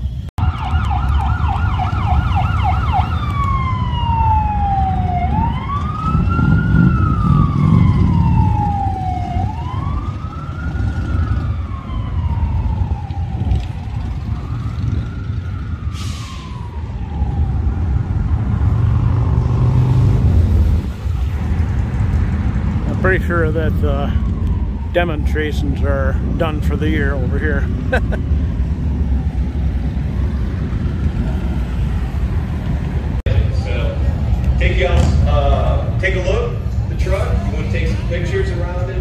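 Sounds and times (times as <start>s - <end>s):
emergency vehicle siren: 0.0s - 39.0s
low traffic rumble: 0.0s - 39.0s.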